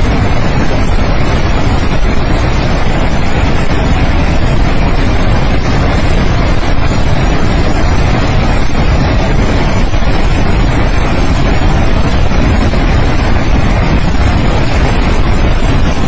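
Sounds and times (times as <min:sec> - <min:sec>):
floodwater rushing torrent: 0:00.0 - 0:16.0.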